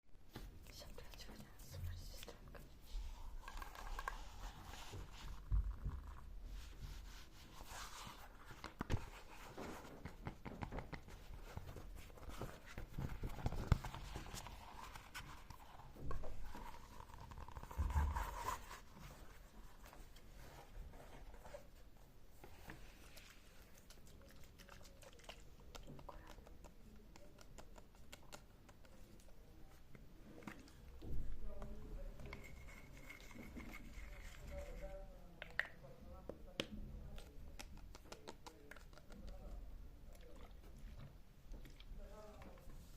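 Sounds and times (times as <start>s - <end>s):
rustling and scratching: 0.3s - 35.3s.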